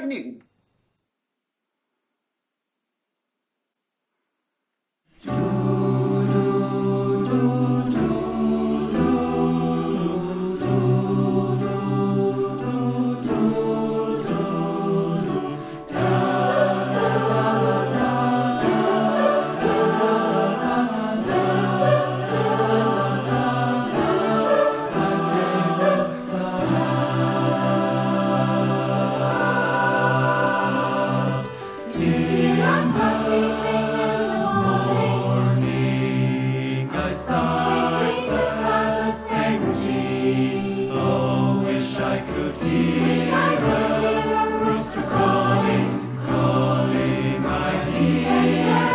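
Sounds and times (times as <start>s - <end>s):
mixed choir singing: 5.2s - 48.9s
piano accompaniment: 5.2s - 48.9s.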